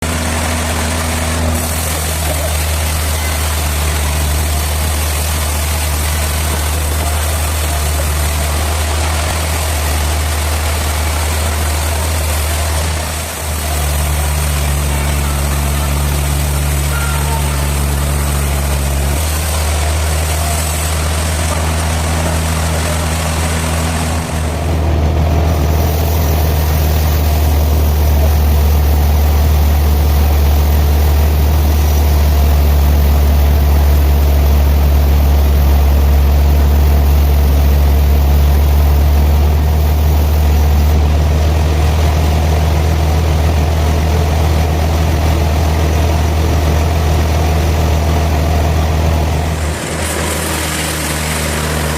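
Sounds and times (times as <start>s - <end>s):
sawmill engine drone: 0.0s - 51.9s.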